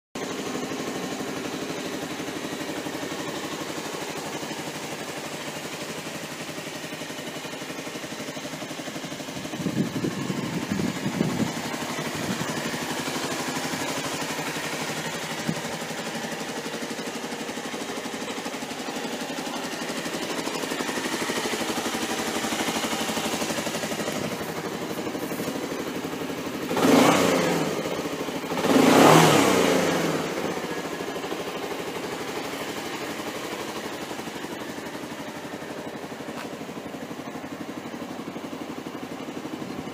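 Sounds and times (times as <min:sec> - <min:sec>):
scooter engine idling: 0:00.2 - 0:39.9
scooter engine revving: 0:00.2 - 0:39.9.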